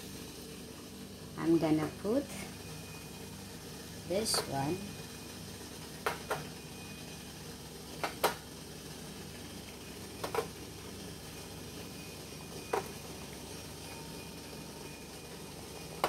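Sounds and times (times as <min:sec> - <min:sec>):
water boiling: 0:00.0 - 0:16.0.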